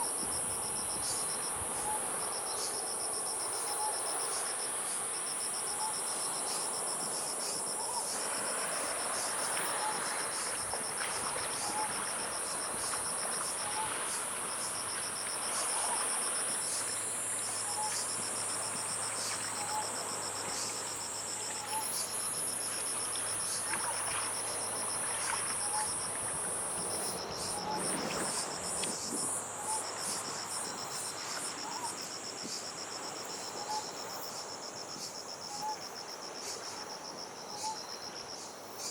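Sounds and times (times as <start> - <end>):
crickets chirping: 0.0 - 38.9
insects buzzing: 2.2 - 38.9.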